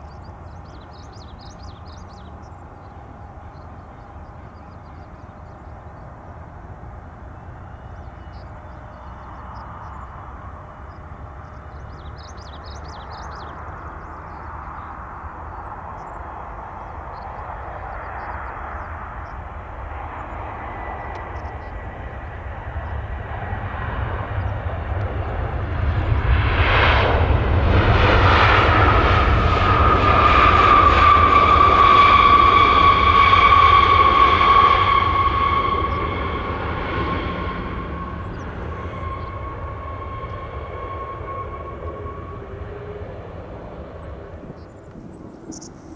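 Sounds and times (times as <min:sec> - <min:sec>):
airliner engines: 0:00.0 - 0:45.9
high engine whine: 0:00.0 - 0:45.9.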